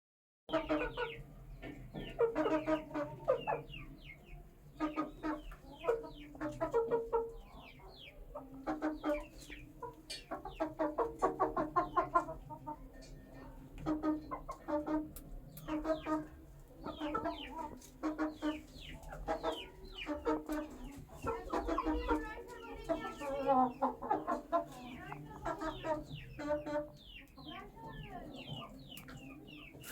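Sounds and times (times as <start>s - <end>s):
chickens clucking: 0.5s - 29.9s.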